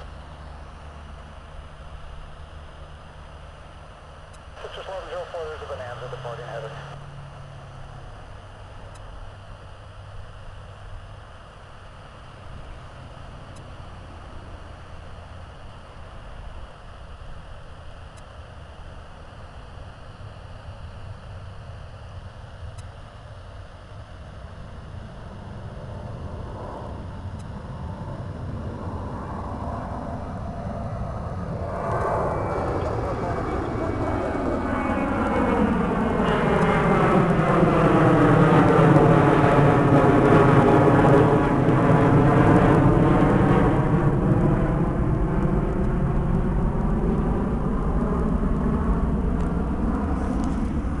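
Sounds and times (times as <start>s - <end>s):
jet engine rumble: 0.0s - 51.0s.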